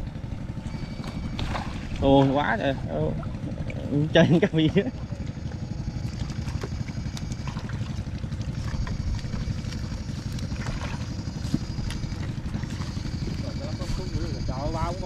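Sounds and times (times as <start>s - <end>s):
faint high whine: 0.0s - 15.0s
small engine running: 0.0s - 15.0s.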